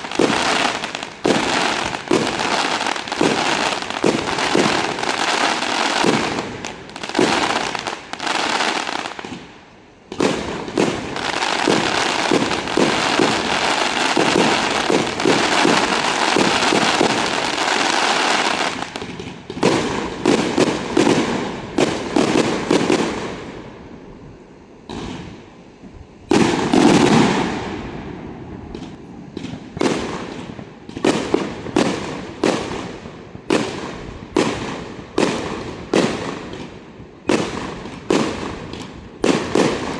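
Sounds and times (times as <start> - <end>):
fireworks booms: 0.0 - 9.5, 10.1 - 23.6, 26.3 - 39.9
fireworks sharp bursts: 0.0 - 23.7, 26.3 - 39.9
fireworks crackling barrages: 0.0 - 39.9.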